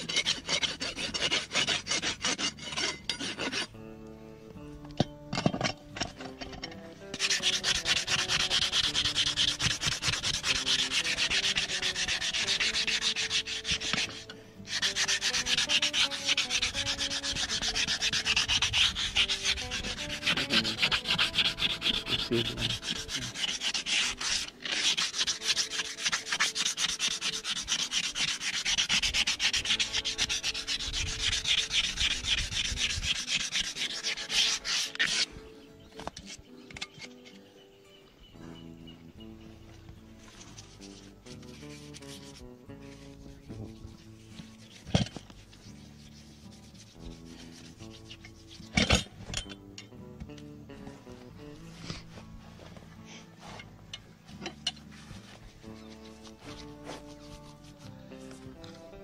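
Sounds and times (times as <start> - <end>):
hoof rasp scraping: 0.0 - 59.0.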